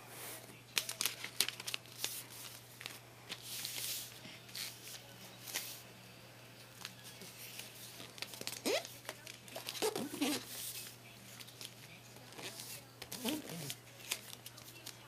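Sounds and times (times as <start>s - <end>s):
paper crinkling: 0.7s - 5.8s, 6.8s - 15.0s.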